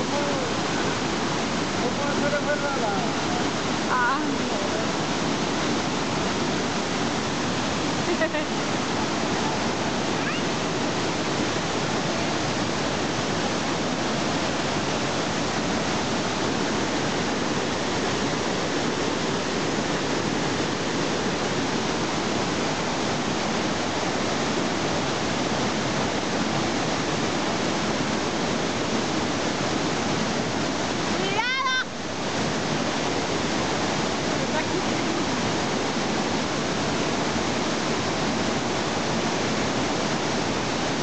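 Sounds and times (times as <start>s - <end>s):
waterfall pouring over boulders: 0.0s - 41.0s.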